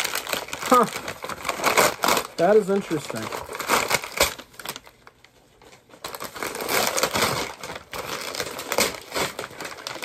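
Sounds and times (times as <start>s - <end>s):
paper and plastic crinkling and tearing: 0.0s - 10.0s.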